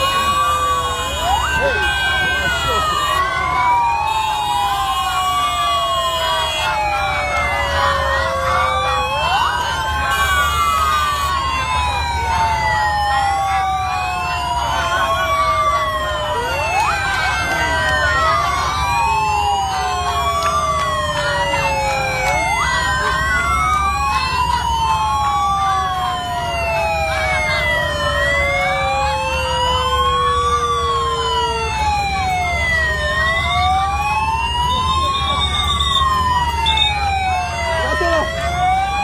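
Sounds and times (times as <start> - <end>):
sirens wailing: 0.0 - 39.0.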